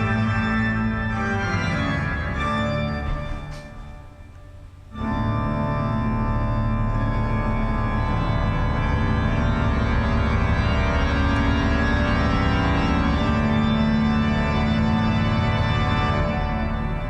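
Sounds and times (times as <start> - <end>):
organ chords: 0.0 - 17.0.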